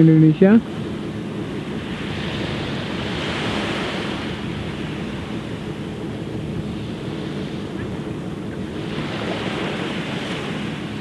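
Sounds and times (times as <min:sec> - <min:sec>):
small waves washing onto shore: 0:00.0 - 0:11.0
wind rumbling on microphone: 0:00.0 - 0:11.0.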